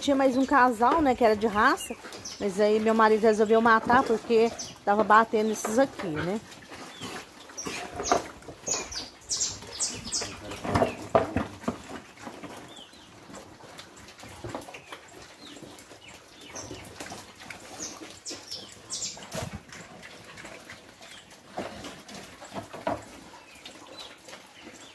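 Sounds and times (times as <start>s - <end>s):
pigs chewing and slurping: 0.0s - 24.9s
pigs squeaking: 0.1s - 24.9s
pigs grunting: 1.8s - 24.9s.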